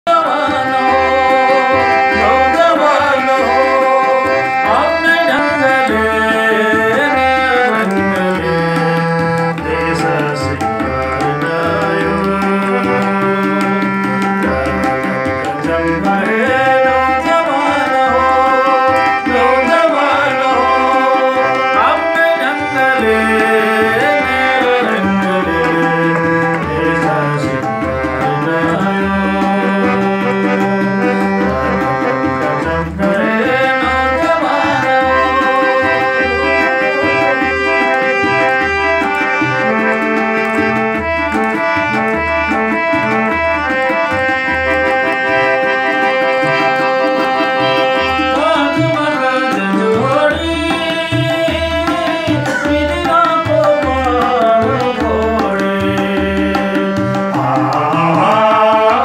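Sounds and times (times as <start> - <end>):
man singing: 0.0 - 42.2, 42.8 - 59.0
harmonium: 0.0 - 59.0
hand drum beat: 0.1 - 59.0.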